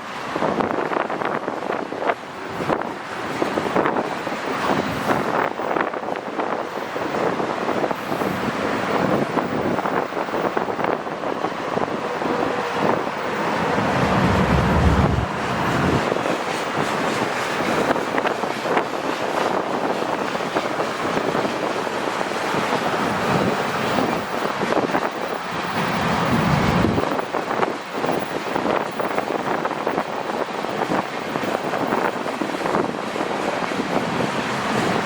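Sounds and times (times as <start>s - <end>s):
freight train rolling by: 0.0s - 35.0s
wind buffeting microphone: 0.1s - 35.0s.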